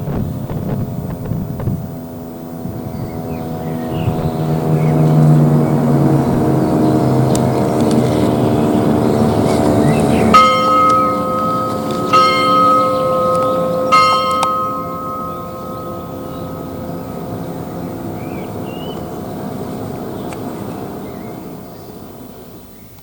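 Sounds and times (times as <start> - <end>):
hum of low held tones: 0.0 - 23.0
church bell ringing: 1.9 - 22.7.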